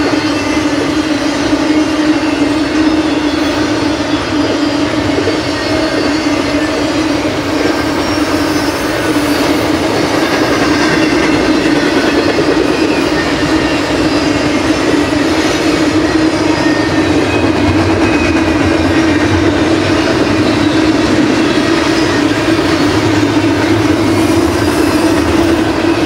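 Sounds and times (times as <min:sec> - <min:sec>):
freight train wheels rumbling on rails: 0:00.0 - 0:26.0.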